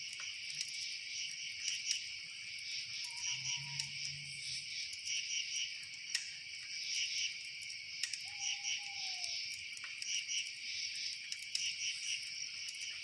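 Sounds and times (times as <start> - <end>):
campfire crackles: 0.0 - 13.0
crickets chirring: 0.0 - 13.0.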